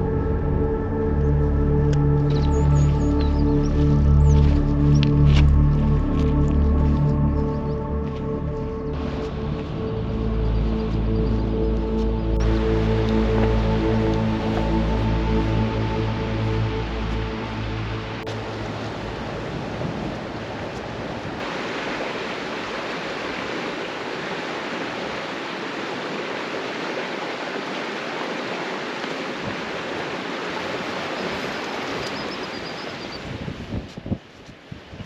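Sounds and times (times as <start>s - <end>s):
rushing water: 0.0s - 35.0s.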